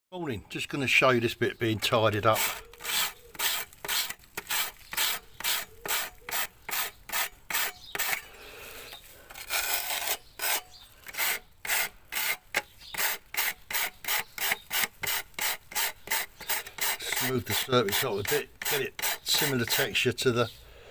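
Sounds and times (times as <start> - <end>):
hand tool scraping brick: 1.8 - 20.1.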